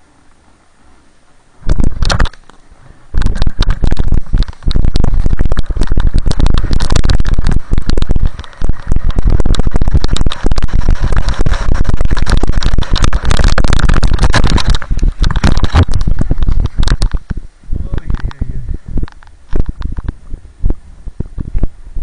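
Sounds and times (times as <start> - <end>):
sliding over snow: 1.6 - 22.0
wind buffeting microphone: 1.6 - 22.0.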